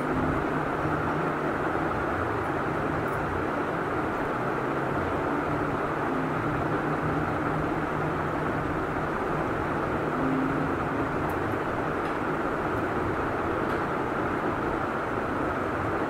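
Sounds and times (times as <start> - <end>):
background rumble and hiss: 0.0 - 16.0.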